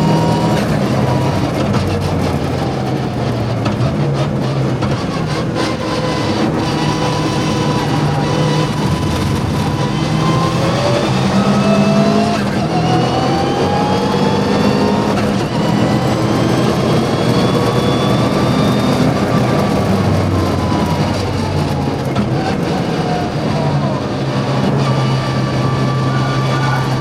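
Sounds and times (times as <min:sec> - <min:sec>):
rally car engine under hard load: 0:00.0 - 0:27.0.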